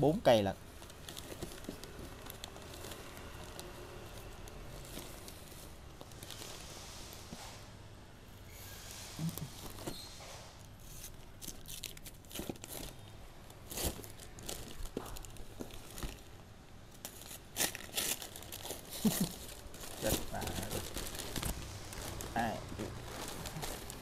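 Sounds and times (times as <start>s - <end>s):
paper and plastic wrap crinkling: 0.7s - 7.0s, 10.8s - 24.0s.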